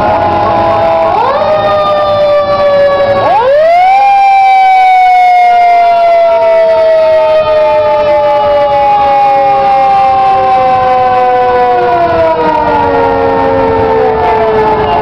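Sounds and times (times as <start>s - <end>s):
fire engine sirens: 0.0s - 15.0s.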